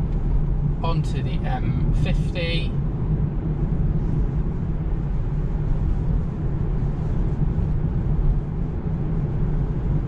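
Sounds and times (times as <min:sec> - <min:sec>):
tyre and wind noise in car: 0:00.0 - 0:10.0.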